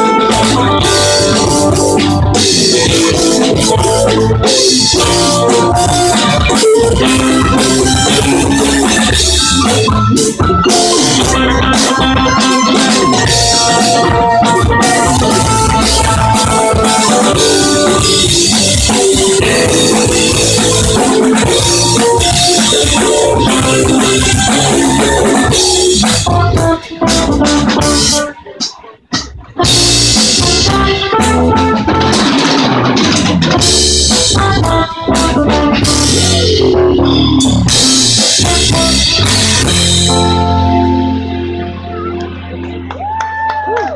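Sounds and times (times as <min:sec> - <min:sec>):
live band playing loud: 0:00.0 - 0:43.9.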